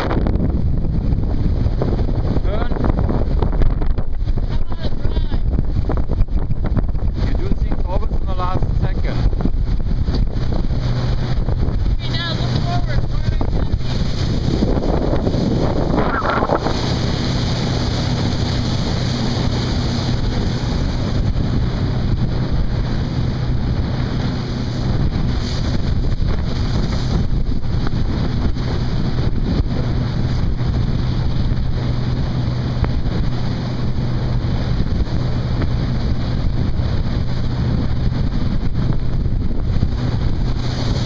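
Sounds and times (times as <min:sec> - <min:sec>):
outboard motor running: 0:00.0 - 0:41.0
water rushing past hull: 0:00.0 - 0:41.0
wind buffeting microphone: 0:00.0 - 0:41.0.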